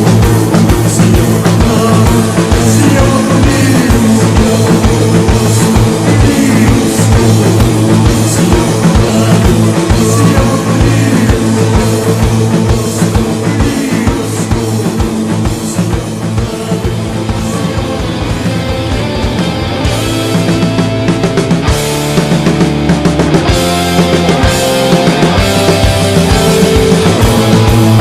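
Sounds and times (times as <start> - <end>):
distorted electric guitar: 0.0 - 28.0
fast driving drum beat: 0.0 - 28.0.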